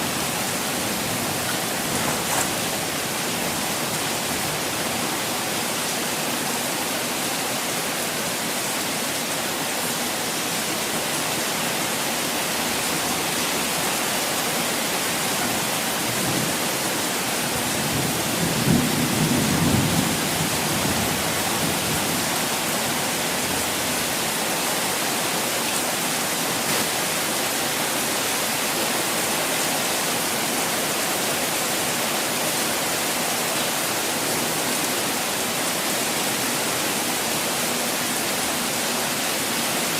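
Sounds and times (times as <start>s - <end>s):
falling water rushing: 0.0s - 18.8s, 20.0s - 39.9s.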